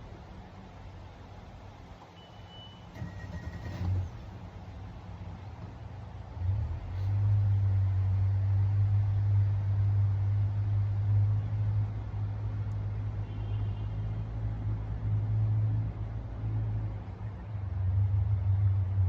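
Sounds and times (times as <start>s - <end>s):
engine rumbling at low revs: 0.0s - 19.0s.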